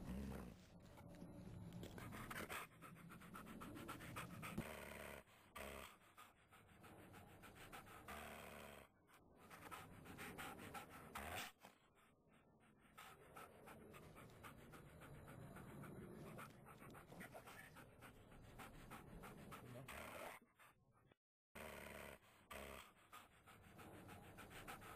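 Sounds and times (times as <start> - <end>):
puppy panting: 0.0 - 24.9.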